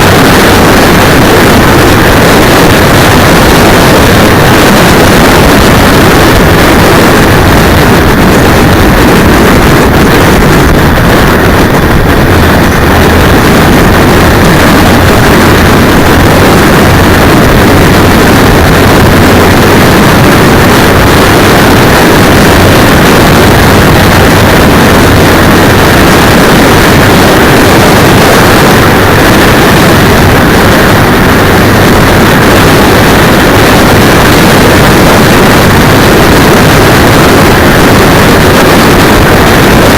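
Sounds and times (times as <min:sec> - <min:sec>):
distorted wind and motorcycle engine roar: 0:00.0 - 0:39.9.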